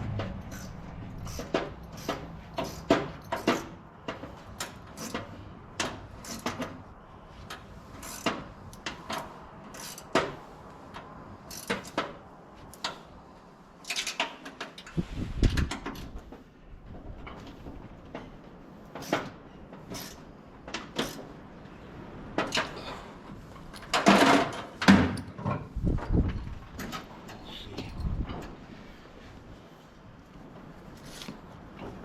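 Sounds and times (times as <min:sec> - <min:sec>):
hand tools and metal hardware clatter: 0:00.0 - 0:21.4, 0:22.4 - 0:29.4, 0:30.6 - 0:32.0.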